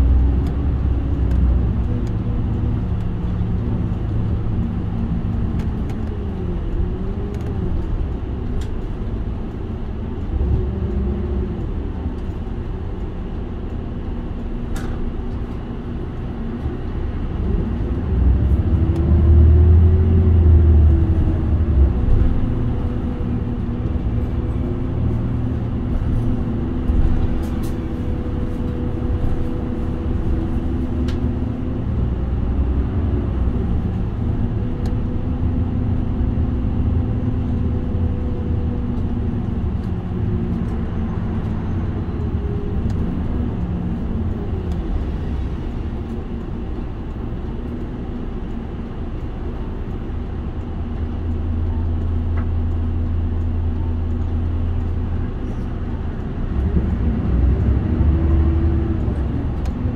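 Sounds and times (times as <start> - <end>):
bus diesel engine: 0.0 - 59.9
road rumble: 0.0 - 59.9.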